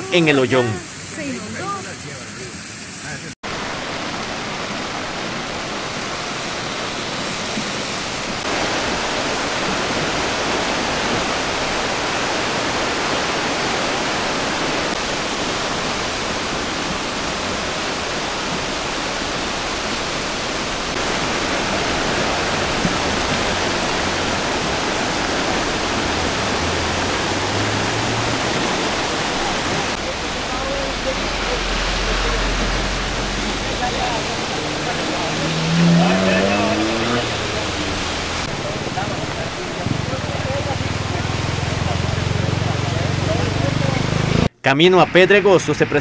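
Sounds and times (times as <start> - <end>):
rushing floodwater: 0.0 - 46.0.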